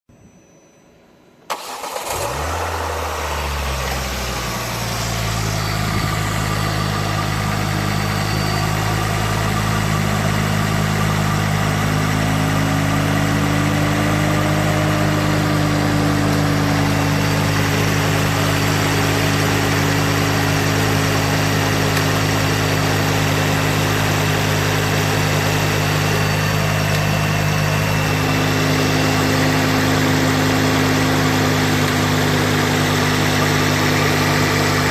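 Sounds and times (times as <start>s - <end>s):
car engine starting and idling: 1.4s - 34.9s.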